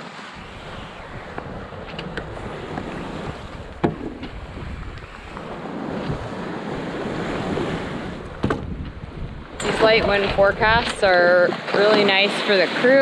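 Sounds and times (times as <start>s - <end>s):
water washing past hull: 0.0s - 13.0s
wind buffeting microphone: 0.2s - 13.0s.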